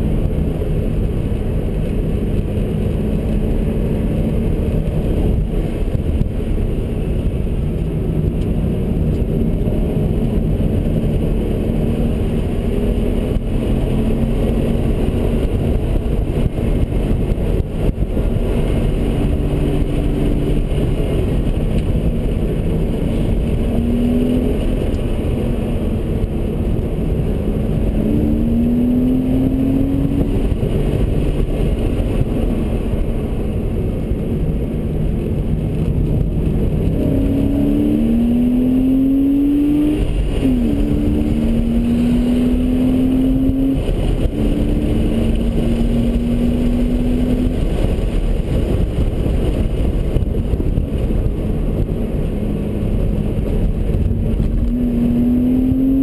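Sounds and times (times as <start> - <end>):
car engine accelerating: 0.0 - 56.0
wind and tyre noise: 0.0 - 56.0.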